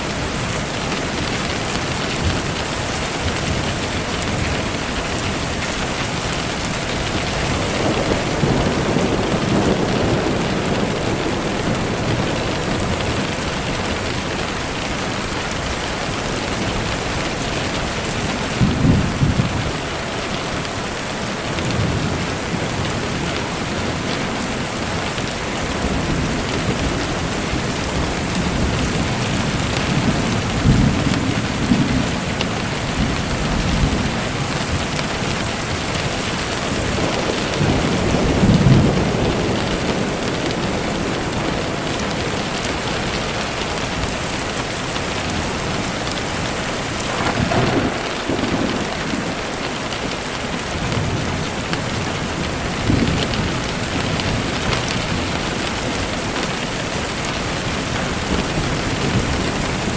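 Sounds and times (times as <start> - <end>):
steady rain falling: 0.0 - 59.9
distant thunder rumbling: 0.1 - 15.6, 21.8 - 59.9.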